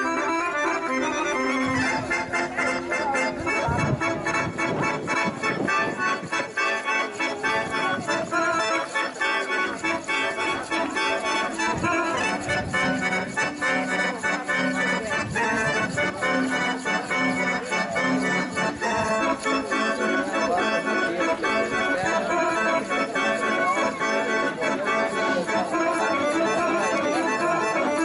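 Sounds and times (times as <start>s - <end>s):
folk dance music with accordion: 0.0s - 28.0s.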